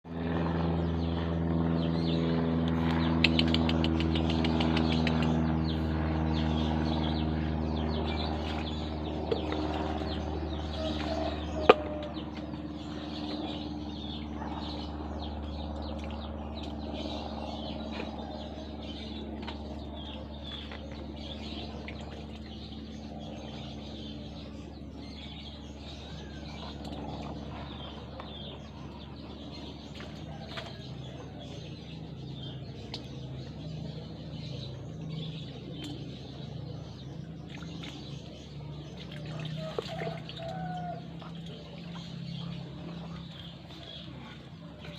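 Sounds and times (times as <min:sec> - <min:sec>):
low motor hum: 0:00.0 - 0:44.9
birds chirping: 0:00.1 - 0:44.9.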